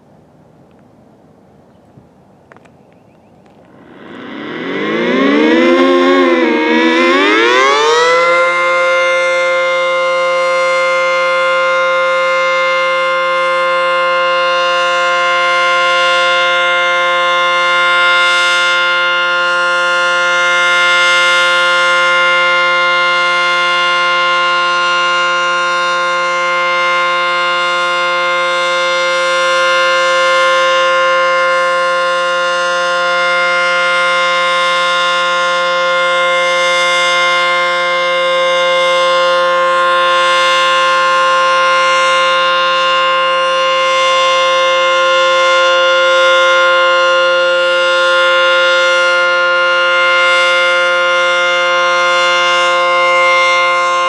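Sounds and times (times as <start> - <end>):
tornado siren steady tone: 3.4 - 54.0.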